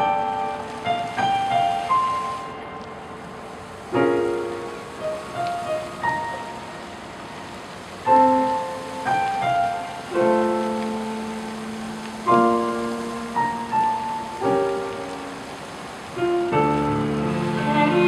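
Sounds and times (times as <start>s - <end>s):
slow piano chords: 0.0s - 18.0s
steady hiss: 0.0s - 18.0s.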